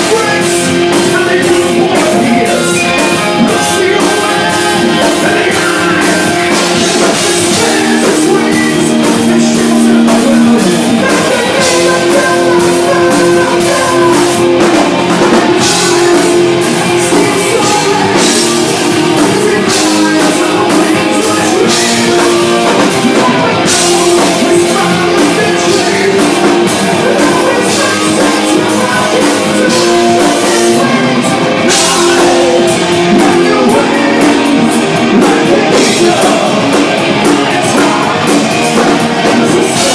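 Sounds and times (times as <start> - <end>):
distorted electric guitar: 0.0 - 39.9
drum kit: 0.0 - 39.9
person singing: 0.0 - 39.9
rock band playing: 0.0 - 39.9.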